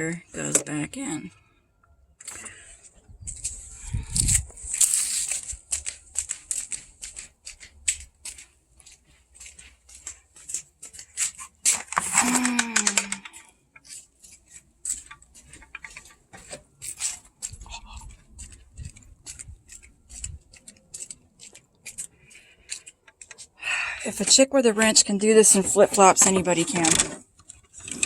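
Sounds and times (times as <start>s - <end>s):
hand tools clicking and rattling: 4.2s - 28.0s.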